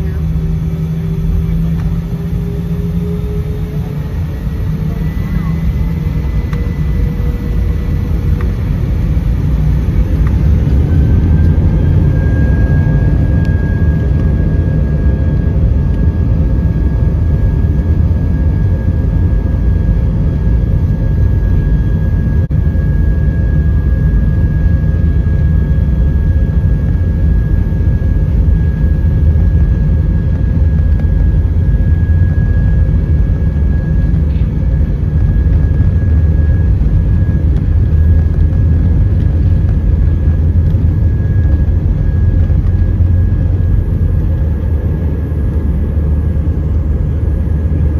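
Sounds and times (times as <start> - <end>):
jet engine rumble: 0.0 - 47.9.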